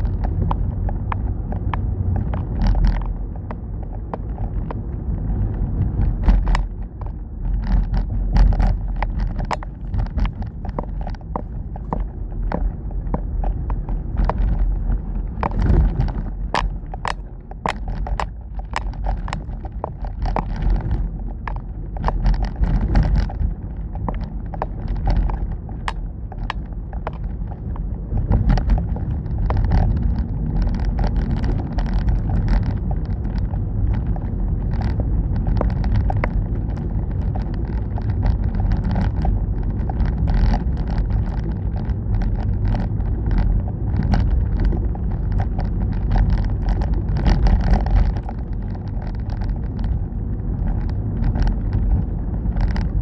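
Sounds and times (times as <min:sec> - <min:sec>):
road and engine rumble: 0:00.0 - 0:53.0
sharp clicks and knocks: 0:00.0 - 0:53.0.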